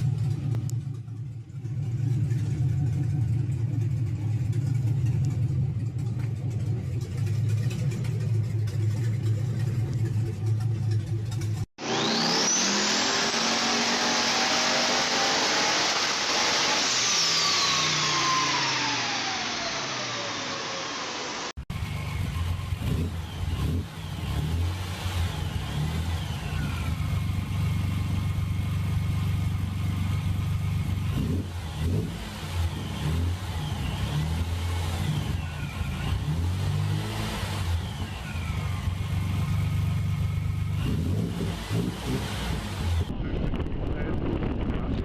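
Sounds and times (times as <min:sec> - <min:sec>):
car engine revving: 0:01.7 - 0:45.0.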